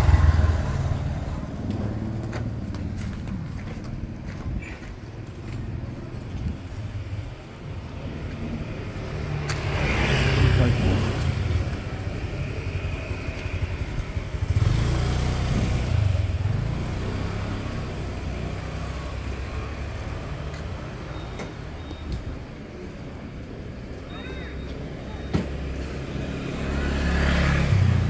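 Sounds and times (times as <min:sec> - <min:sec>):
steady traffic hum: 0:00.0 - 0:28.0
vehicles passing close by: 0:00.0 - 0:28.0.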